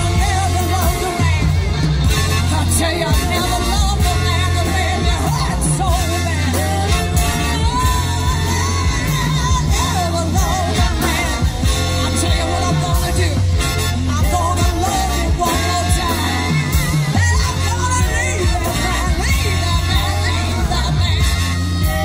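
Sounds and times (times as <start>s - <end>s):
live band playing: 0.0s - 22.0s
steady bass: 0.0s - 22.0s
women singing: 0.0s - 22.0s.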